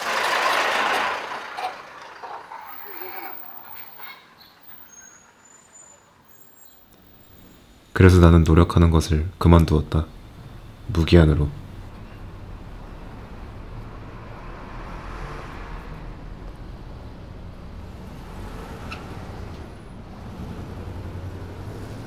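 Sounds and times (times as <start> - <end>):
street traffic hum: 0.0 - 22.0
vehicle passing: 0.0 - 22.0.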